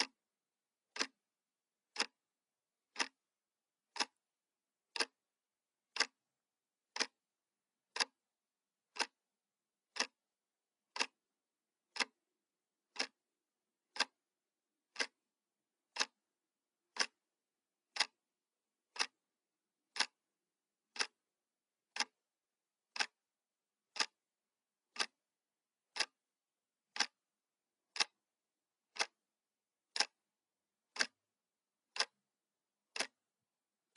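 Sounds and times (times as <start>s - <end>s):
clock ticking: 0.0s - 0.2s, 0.8s - 4.2s, 4.8s - 5.3s, 5.9s - 21.3s, 21.9s - 22.3s, 22.9s - 33.9s.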